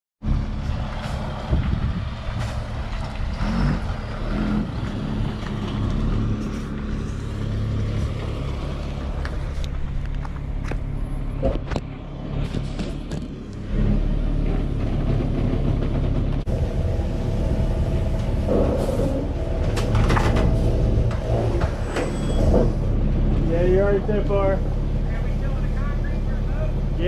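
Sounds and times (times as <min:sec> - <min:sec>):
engine humming: 0:00.2 - 0:27.0.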